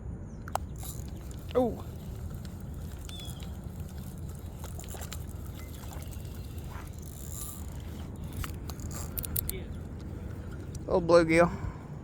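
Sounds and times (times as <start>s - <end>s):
faint clicks: 0.4s - 10.9s
water lapping and trickling: 0.4s - 12.0s.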